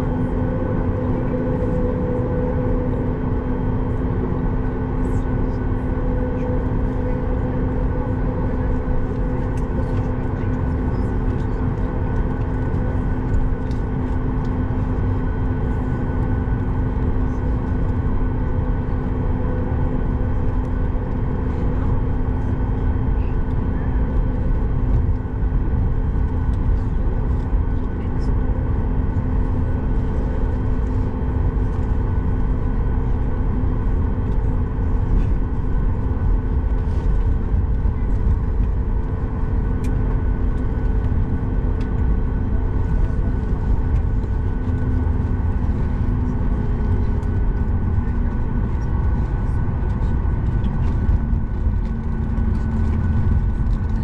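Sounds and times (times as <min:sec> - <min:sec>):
aircraft cabin engine rumble: 0:00.0 - 0:54.0
constant humming tones: 0:00.0 - 0:54.0.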